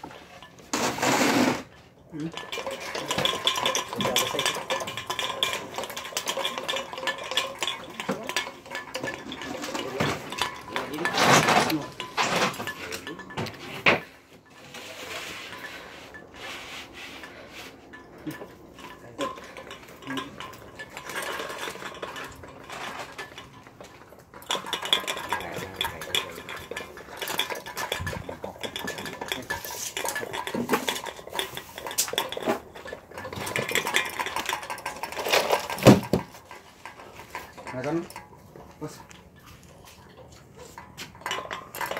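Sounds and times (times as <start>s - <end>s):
metal clinking and scraping: 0.0s - 41.9s.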